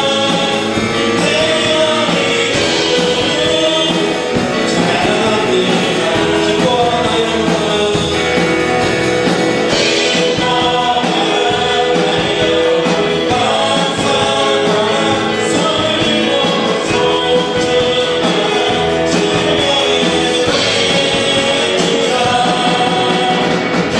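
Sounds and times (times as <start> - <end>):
praise band playing: 0.0 - 23.9
voices singing together: 0.0 - 23.9.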